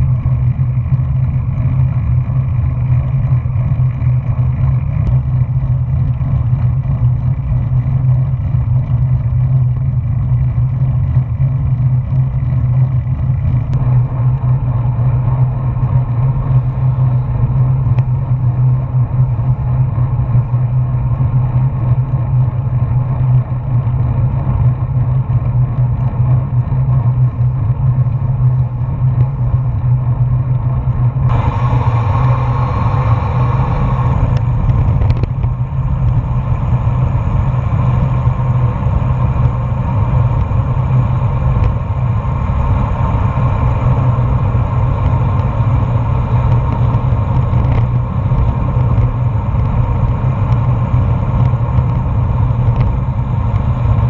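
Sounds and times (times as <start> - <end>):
wind and tyre rumble: 0.0 - 54.0.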